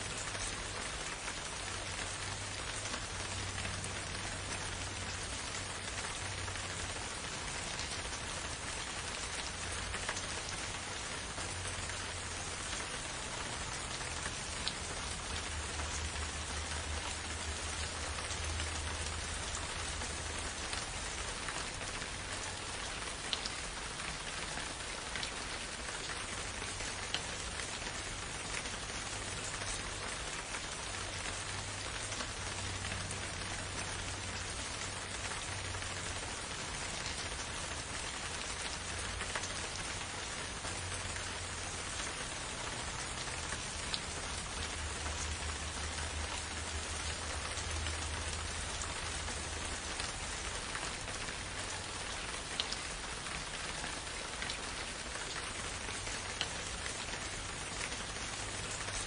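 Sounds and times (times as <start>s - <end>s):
steady rain hiss: 0.0s - 59.0s
raindrops ticking: 0.1s - 59.0s.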